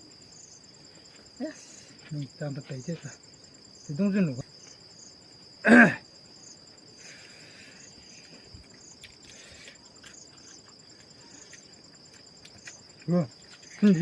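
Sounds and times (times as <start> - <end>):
insect high trill: 0.0 - 14.0
insect pulsing chirp: 0.0 - 14.0.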